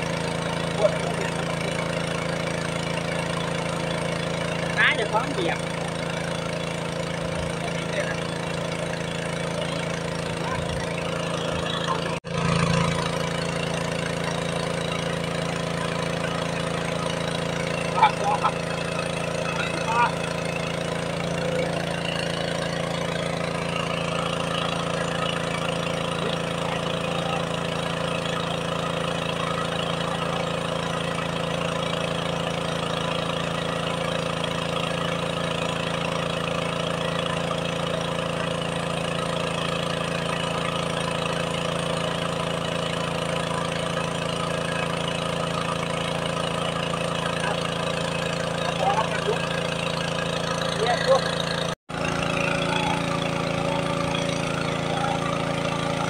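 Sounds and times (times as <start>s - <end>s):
water pump engine running: 0.0s - 56.0s.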